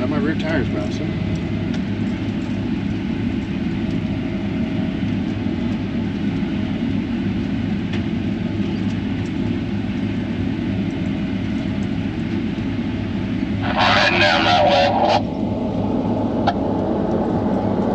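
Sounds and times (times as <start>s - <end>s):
combine harvester drone: 0.0s - 17.9s
faint steady whine: 0.0s - 17.9s.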